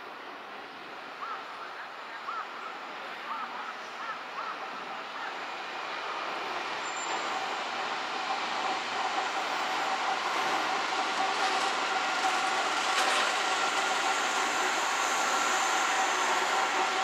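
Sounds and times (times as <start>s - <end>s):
electric train rolling rumble: 2.7s - 17.0s.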